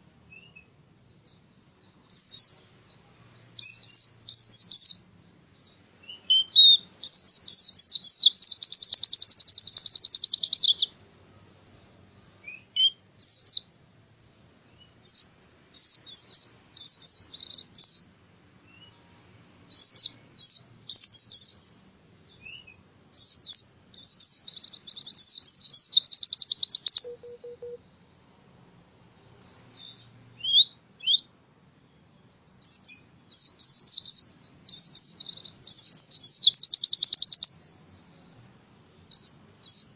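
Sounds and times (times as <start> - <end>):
rapid bird trills: 0.0 - 11.0, 11.6 - 31.3, 31.9 - 39.9
bird chirping: 0.0 - 39.9.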